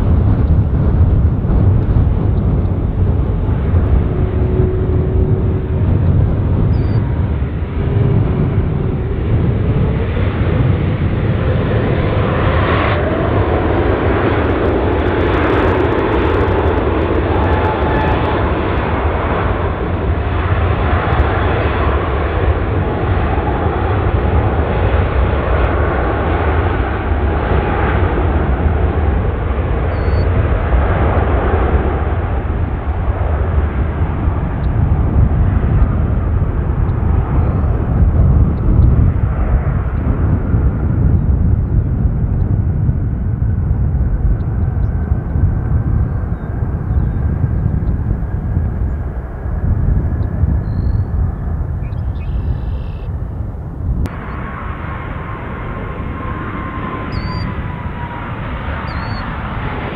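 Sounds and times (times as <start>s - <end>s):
jet airliner engine noise: 0.0s - 59.9s.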